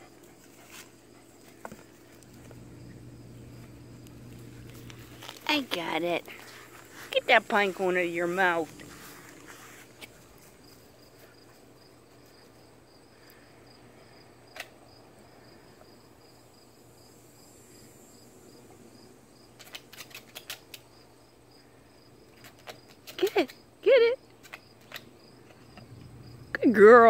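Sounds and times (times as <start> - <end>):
faint insect chirping: 0.0 - 27.0.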